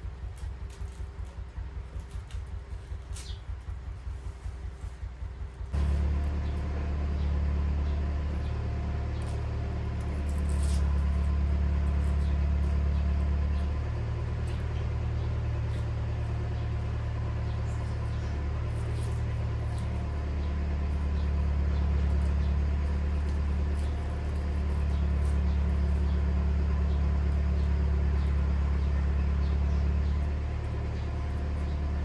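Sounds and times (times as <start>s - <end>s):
motor humming: 5.7s - 32.0s.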